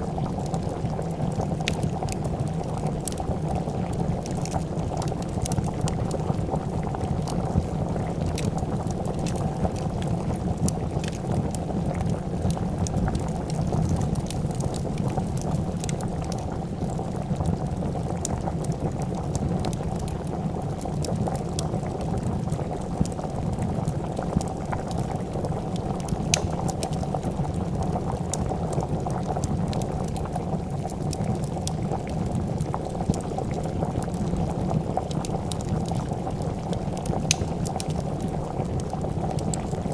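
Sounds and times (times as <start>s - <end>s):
soup bubbling in a pot: 0.0s - 39.9s
wood fire crackling: 0.0s - 39.9s.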